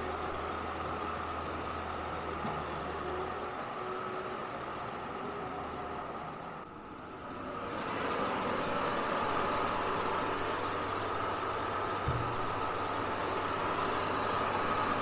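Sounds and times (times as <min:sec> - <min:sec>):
skid loader diesel engine: 0:00.0 - 0:15.0.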